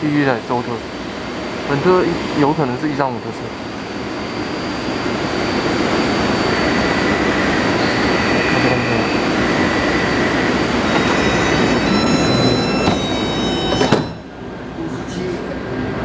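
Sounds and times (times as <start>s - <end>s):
thin high whine: 1.7s - 14.9s.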